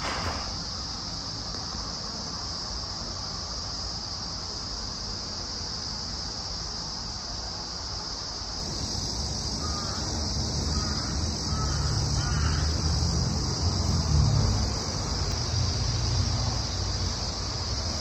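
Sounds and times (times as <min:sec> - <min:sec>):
even high hiss: 0:00.0 - 0:18.0.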